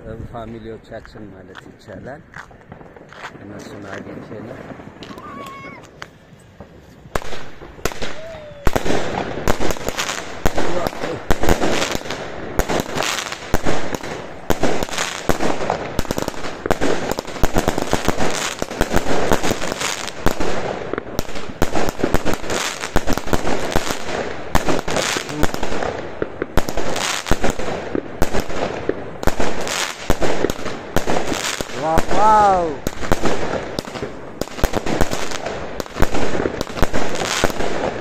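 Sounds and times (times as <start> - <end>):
fireworks and firecrackers banging: 0.0 - 38.0.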